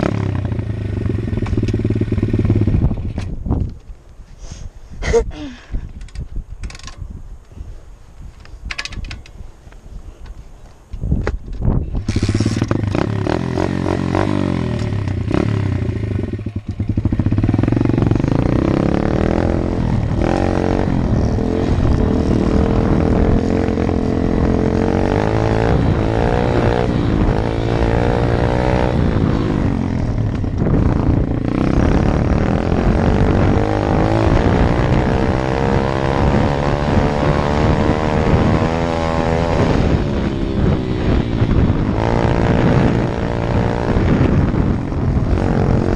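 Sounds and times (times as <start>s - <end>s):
dirt bike engine revving: 0.0s - 3.1s, 12.0s - 45.9s.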